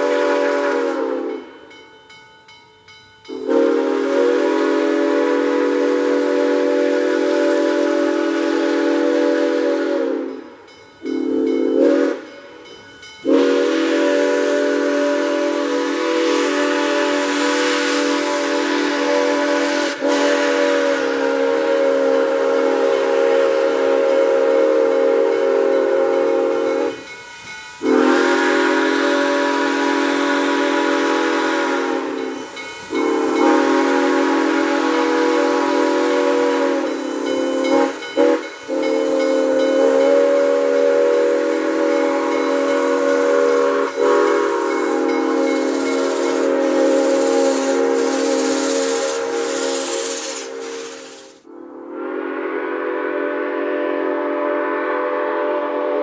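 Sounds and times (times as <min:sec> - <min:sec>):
steam whistle blasts: 0:00.0 - 0:01.5, 0:03.3 - 0:56.0
steam hiss: 0:03.3 - 0:51.5.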